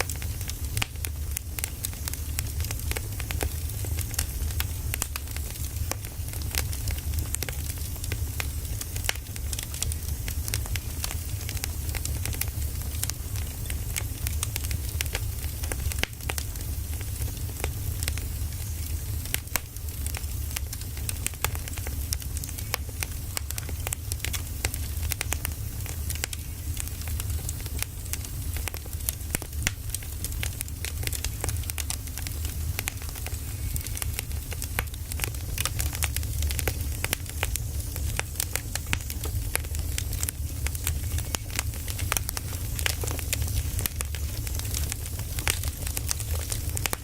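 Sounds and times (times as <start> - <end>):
firewood crackling and popping: 0.0 - 47.0
low fire rumble: 0.0 - 47.0.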